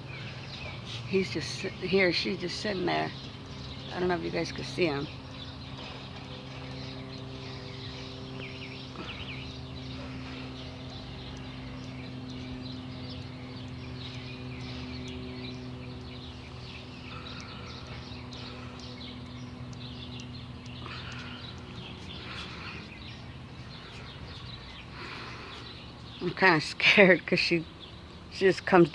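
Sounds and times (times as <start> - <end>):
birds chirping: 0.0 - 28.9
steady low hum: 0.0 - 28.9.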